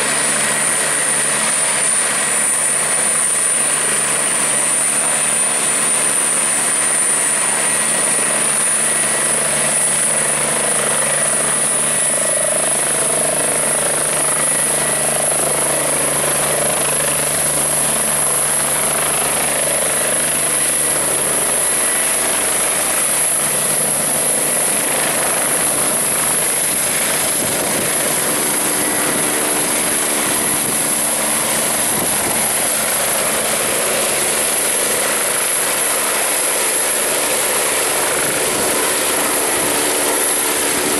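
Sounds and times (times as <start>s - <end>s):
helicopter turbine whine and rotor: 0.0s - 40.9s.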